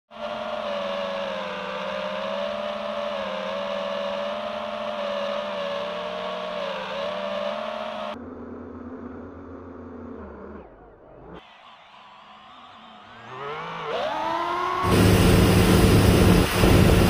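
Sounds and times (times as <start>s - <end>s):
drone propellers whining: 0.1s - 17.0s.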